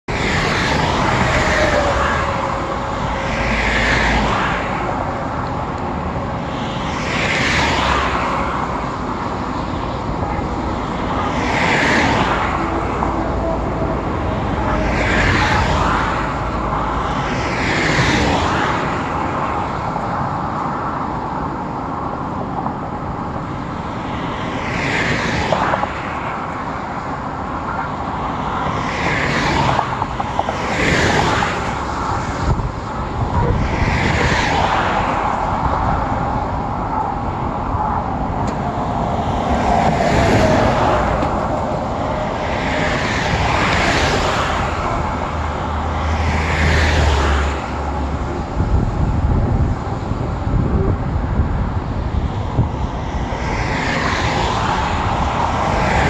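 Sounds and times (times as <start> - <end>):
distant traffic drone: 0.0 - 56.0
vehicles passing at speed: 0.0 - 56.0.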